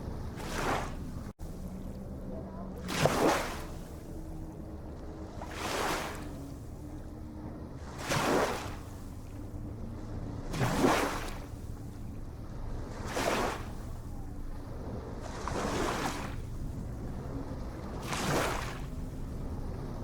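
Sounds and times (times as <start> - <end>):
ocean waves breaking: 0.0 - 20.0.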